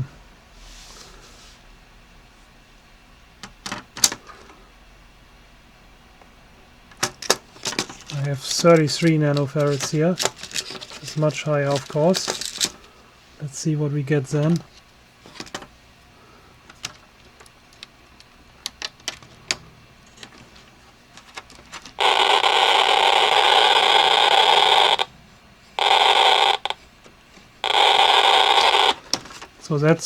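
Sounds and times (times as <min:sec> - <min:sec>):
electronic noise generator hiss: 0:00.0 - 0:30.0.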